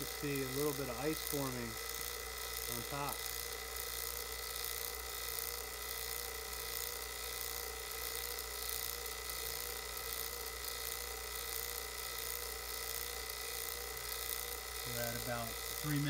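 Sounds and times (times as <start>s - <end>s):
vacuum pump running: 0.0s - 16.0s.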